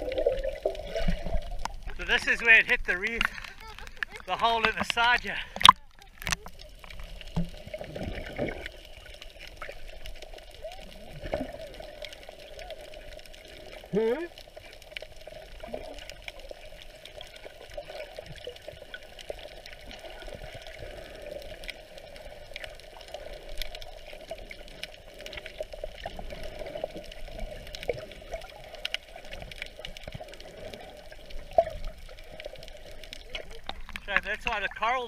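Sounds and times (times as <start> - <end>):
small clicks and pops: 0.0 - 34.9
muffled underwater water wash: 0.0 - 35.0.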